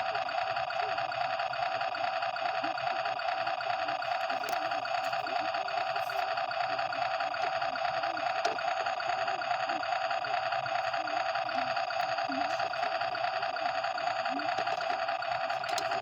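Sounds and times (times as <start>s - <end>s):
toy truck mechanical buzz: 0.0s - 16.0s.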